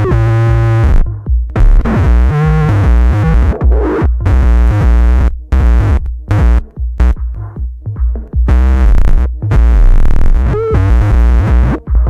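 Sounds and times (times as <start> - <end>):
distorted feedback tones: 0.0 - 7.2, 8.5 - 12.0
heavy bass drone: 0.0 - 7.3, 8.4 - 12.0.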